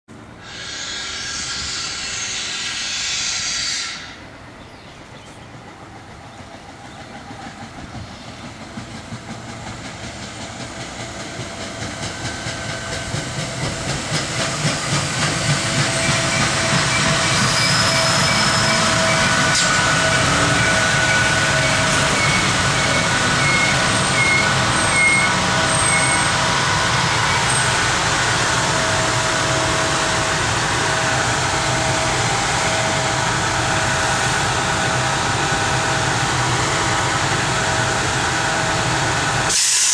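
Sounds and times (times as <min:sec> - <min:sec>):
electric train passing: 0:00.1 - 0:39.9
train wheel rumble and hiss: 0:00.1 - 0:39.9.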